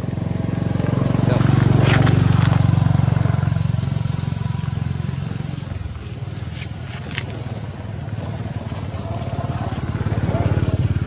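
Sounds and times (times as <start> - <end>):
vehicle engine pulsing hum: 0.0 - 11.0.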